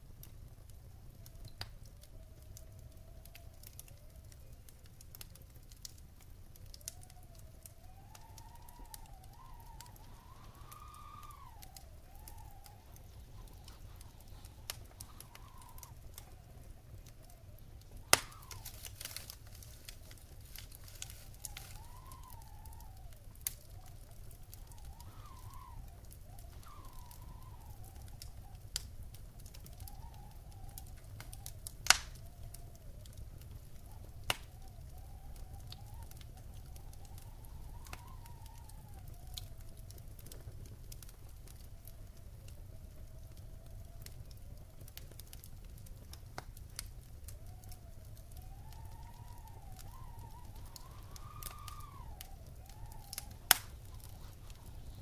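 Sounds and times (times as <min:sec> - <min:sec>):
wood fire crackling: 0:00.0 - 0:55.0
faint wavering whistle: 0:06.1 - 0:44.8, 0:46.9 - 0:55.0.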